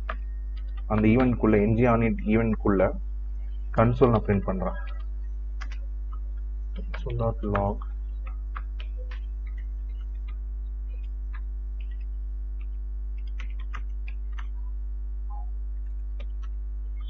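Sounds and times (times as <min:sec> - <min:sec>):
keyboard typing clicks: 0:00.0 - 0:02.6, 0:03.7 - 0:14.6, 0:15.3 - 0:17.0
electrical mains hum: 0:00.0 - 0:17.0.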